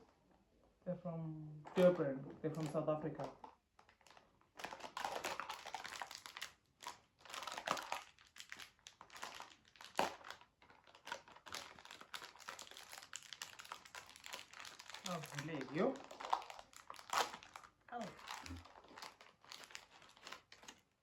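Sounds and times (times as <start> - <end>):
plastic snack packet crinkling: 1.7 - 21.0.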